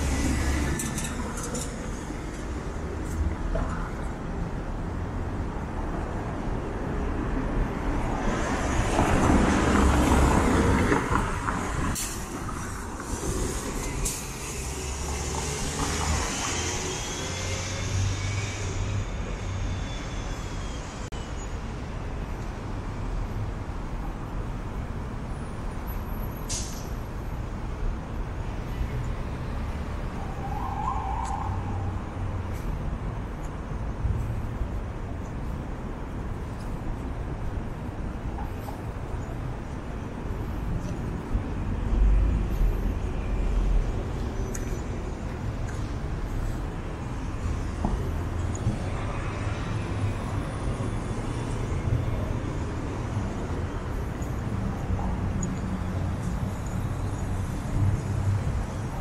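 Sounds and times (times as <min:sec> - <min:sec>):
low rumble of traffic: 0:00.0 - 0:59.0.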